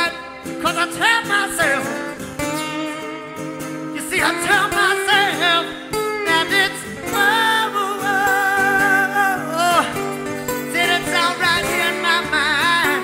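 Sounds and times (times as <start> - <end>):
guitar accompaniment: 0.0 - 13.0.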